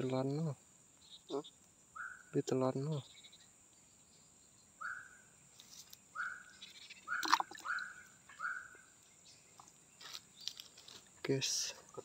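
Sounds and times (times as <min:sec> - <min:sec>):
bird calls: 0:00.9 - 0:10.9.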